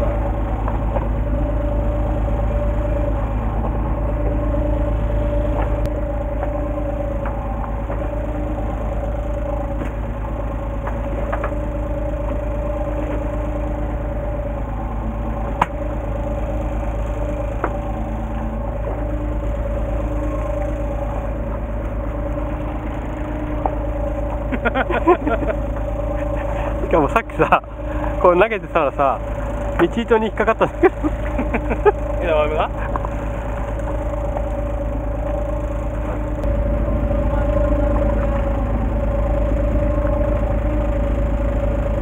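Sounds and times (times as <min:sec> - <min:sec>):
boat engine idling: 0:00.0 - 0:42.0.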